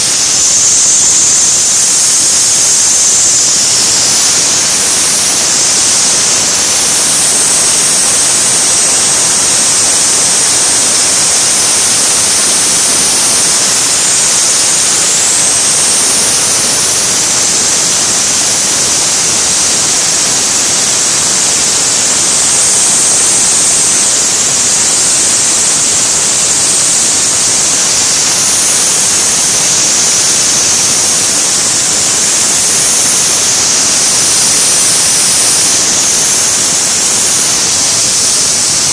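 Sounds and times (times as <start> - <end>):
compressed air hissing: 0.0 - 38.9.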